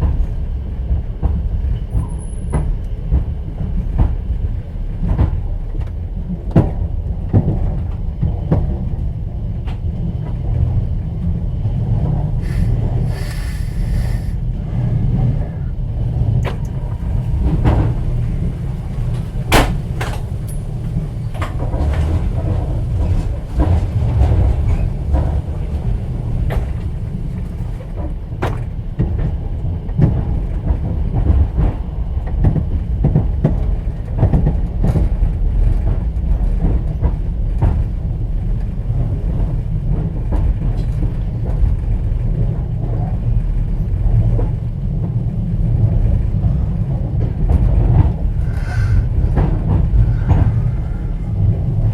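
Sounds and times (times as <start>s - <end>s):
train running rumble: 0.0s - 51.9s.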